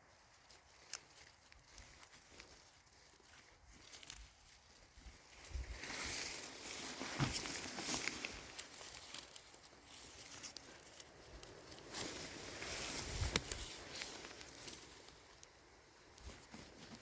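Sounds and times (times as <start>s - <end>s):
footsteps rustling undergrowth: 0.0s - 17.0s
twigs snapping: 0.0s - 17.0s.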